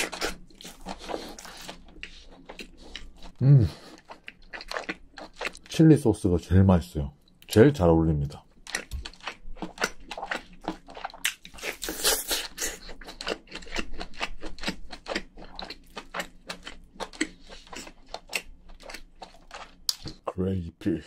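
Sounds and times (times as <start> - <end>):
wet chewing clicks and smacks: 0.0 - 5.8, 8.4 - 20.2.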